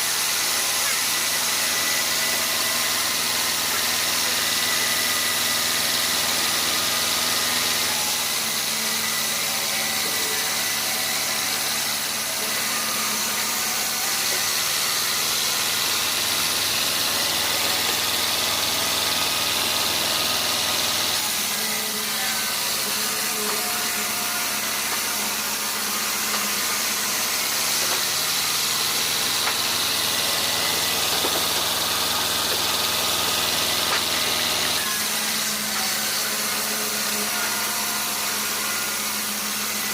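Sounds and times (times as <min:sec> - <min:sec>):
sawmill machinery engine running: 0:00.0 - 0:39.9.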